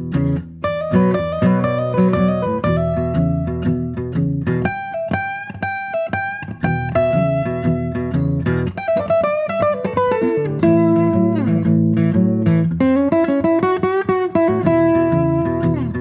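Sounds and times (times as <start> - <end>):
plucked guitar run: 0.0 - 16.0.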